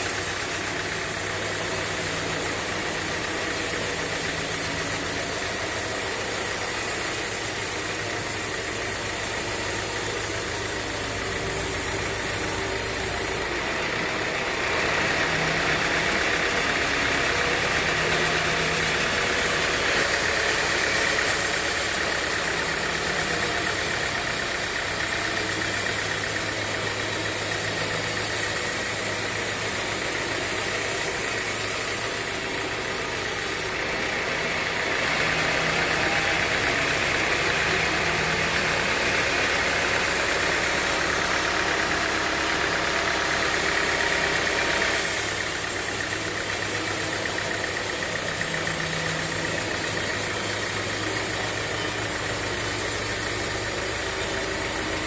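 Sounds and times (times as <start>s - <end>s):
sawmill motor drone with hiss: 0.0s - 55.0s.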